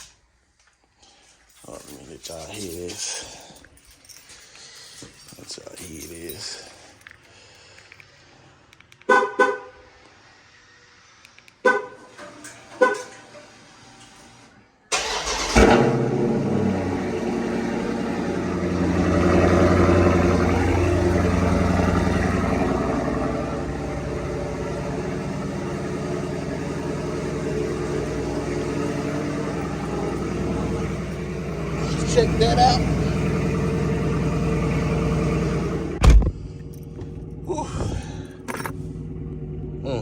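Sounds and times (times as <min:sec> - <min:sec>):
car engine starting and idling: 0:00.0 - 0:40.0.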